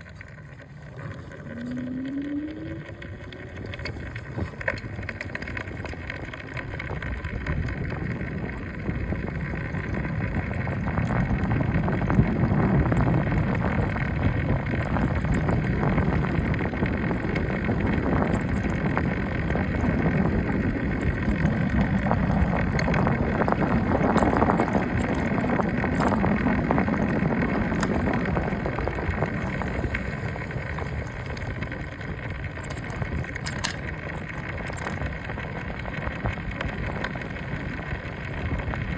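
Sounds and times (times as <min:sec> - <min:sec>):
front wheel rattling: 0:00.0 - 0:38.9
road and engine noise: 0:00.0 - 0:38.9.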